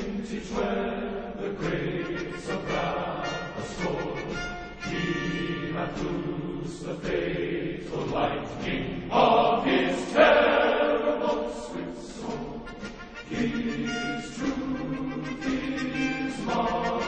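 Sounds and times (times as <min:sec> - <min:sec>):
background music: 0:00.0 - 0:17.0
choir singing: 0:00.0 - 0:17.0.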